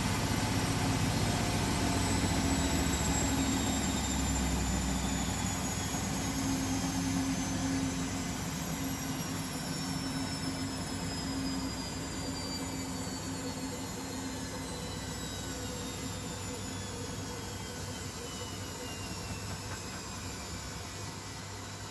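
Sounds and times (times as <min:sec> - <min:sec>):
washing machine motor hum: 0:00.0 - 0:21.9
washing machine spin whine: 0:00.0 - 0:21.9.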